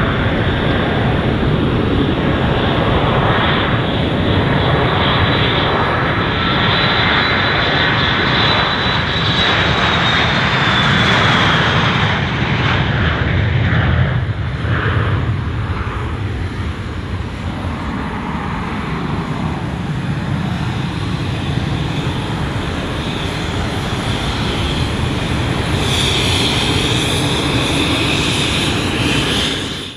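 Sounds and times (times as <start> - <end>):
jet roar with high whine: 0.0 - 29.9.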